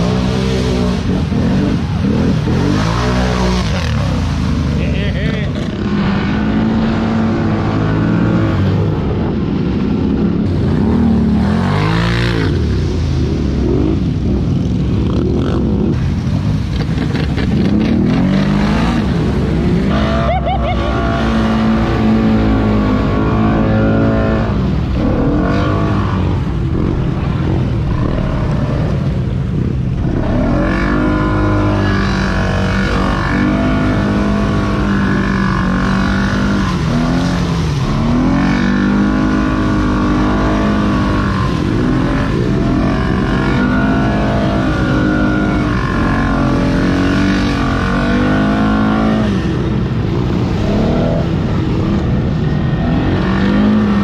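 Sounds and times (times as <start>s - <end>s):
atv engine revving: 0.0s - 54.0s
steady rush of noise: 0.0s - 54.0s.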